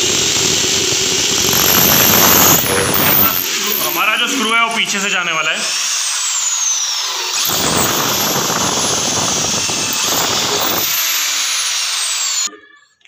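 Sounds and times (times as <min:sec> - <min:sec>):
drill bit grinding through wood: 0:00.0 - 0:12.5
electric drill motor whine: 0:00.0 - 0:12.5.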